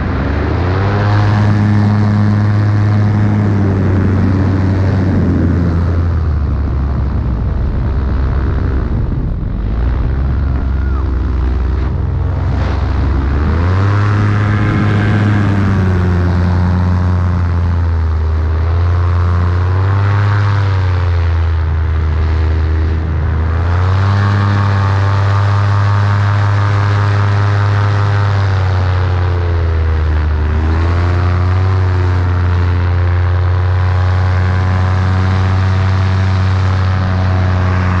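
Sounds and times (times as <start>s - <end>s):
paramotor engine and propeller: 0.0s - 38.0s.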